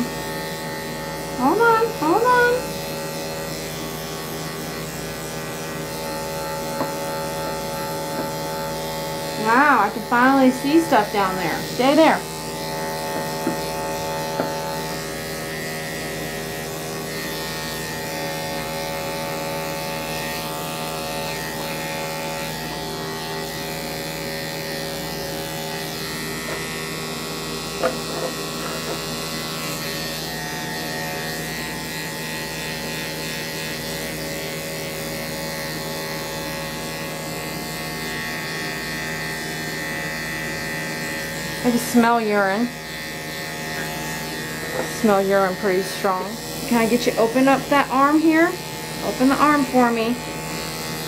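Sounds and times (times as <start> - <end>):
electric clippers buzzing: 0.0 - 51.0.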